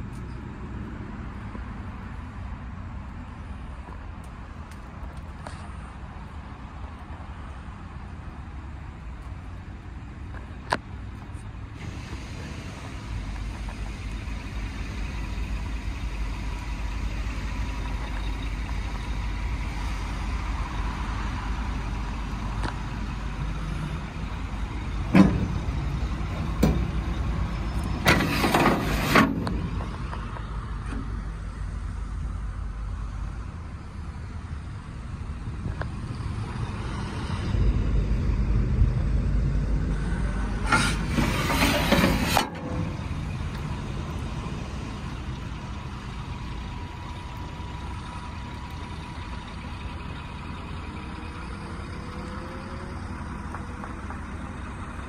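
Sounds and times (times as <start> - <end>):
low vehicle rumble: 0.0 - 55.0.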